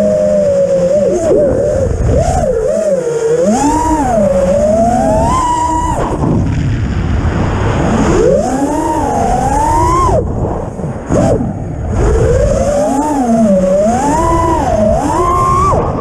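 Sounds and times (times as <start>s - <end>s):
drone motors whining: 0.0s - 16.0s
wind rumble on microphone: 0.0s - 16.0s.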